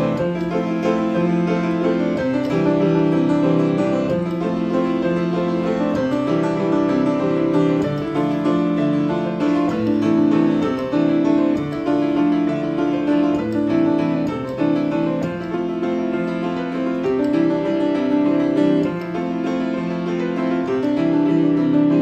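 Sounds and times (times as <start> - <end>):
acoustic piano playing: 0.0 - 22.0.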